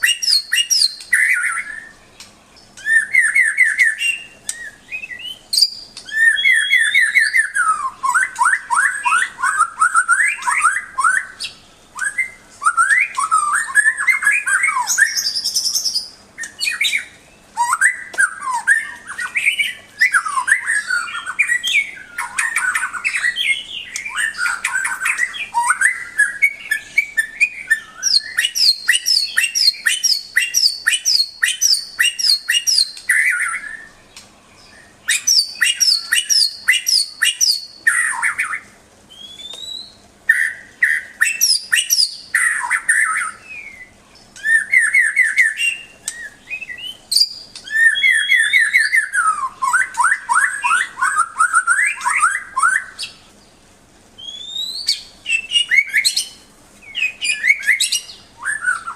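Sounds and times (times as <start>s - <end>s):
songbird singing varied song: 0.0s - 58.9s.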